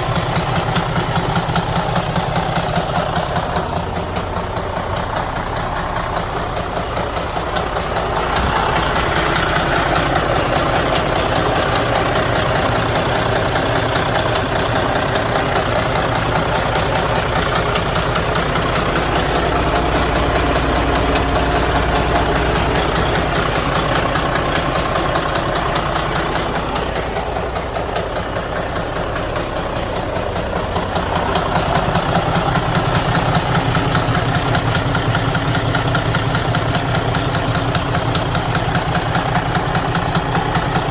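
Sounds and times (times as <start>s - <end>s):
diesel engine running: 0.0s - 40.9s
rapid knocking inside engine: 0.0s - 40.9s.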